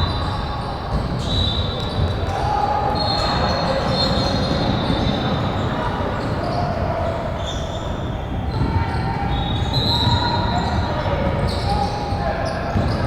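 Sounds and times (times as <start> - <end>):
people talking in echoing hall: 0.0 - 13.0.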